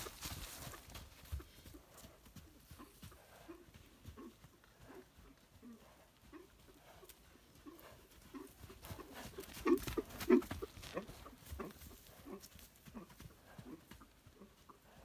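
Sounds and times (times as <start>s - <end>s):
hoofbeats on soft ground: 0.0s - 15.0s.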